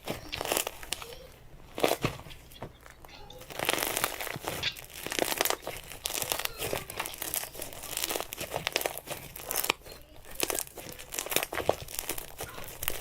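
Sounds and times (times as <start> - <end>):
slime crackling and popping: 0.0 - 13.0.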